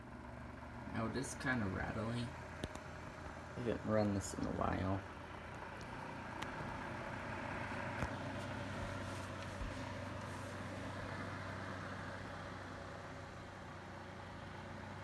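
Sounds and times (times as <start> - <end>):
desk fan motor hum: 0.0 - 15.0.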